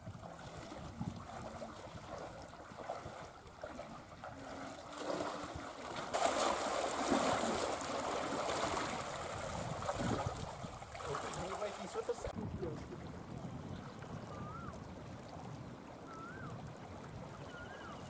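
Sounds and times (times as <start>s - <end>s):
people wading and splashing: 0.0s - 17.9s
river water flowing and rippling: 0.0s - 18.0s.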